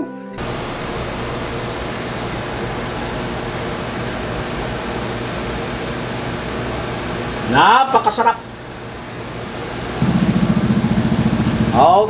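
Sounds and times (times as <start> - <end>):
fan whirring: 0.4 - 12.0.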